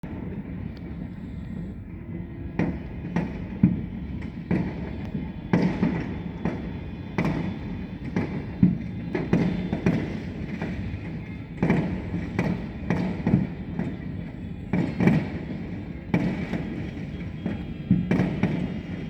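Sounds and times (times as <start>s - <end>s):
fireworks bangs: 2.5s - 19.0s.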